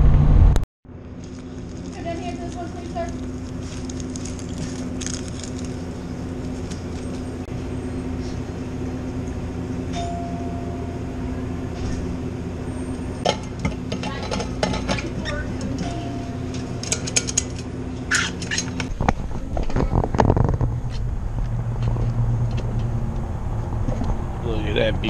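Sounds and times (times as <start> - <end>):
car engine and road noise: 0.0 - 13.9, 17.6 - 25.0.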